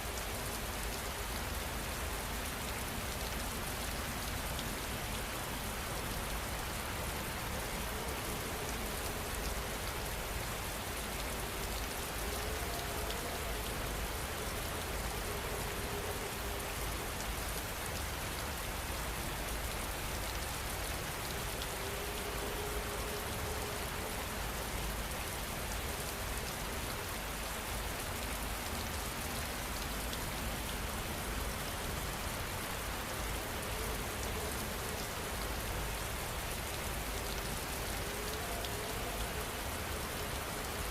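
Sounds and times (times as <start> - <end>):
rain falling on a surface: 0.0 - 40.9.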